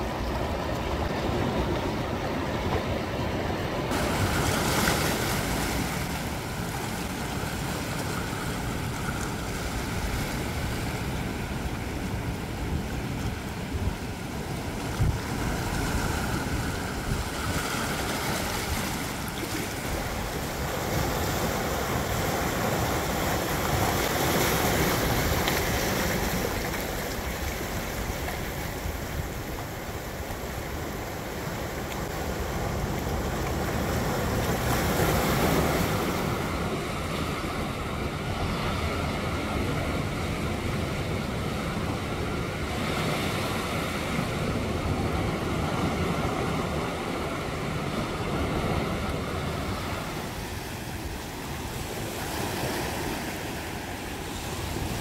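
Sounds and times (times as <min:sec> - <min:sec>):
surf washing over rocks: 0:00.0 - 0:55.0.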